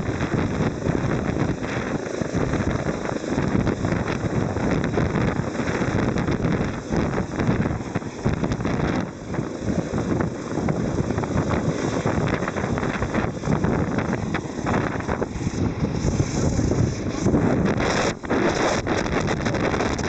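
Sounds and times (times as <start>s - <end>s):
helicopter rotor and engine: 0.0s - 20.0s
wind buffeting microphone: 0.0s - 20.0s.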